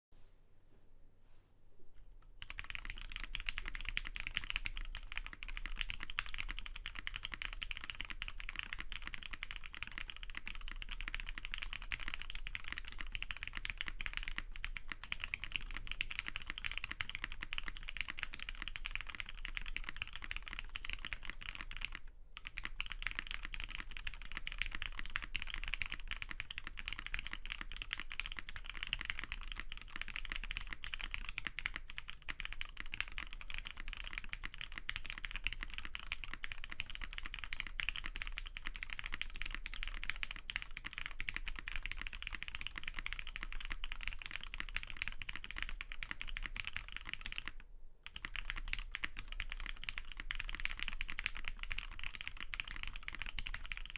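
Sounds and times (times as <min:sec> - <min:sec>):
typing on mechanical keyboard: 0:02.4 - 0:53.9.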